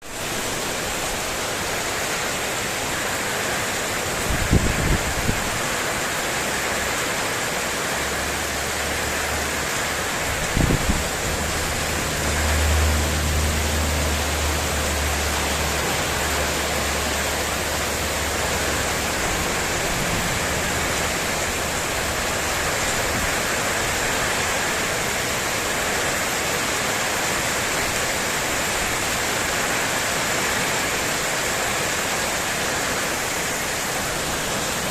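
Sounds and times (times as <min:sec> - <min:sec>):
heavy rain on metal roof: 0:00.0 - 0:34.9.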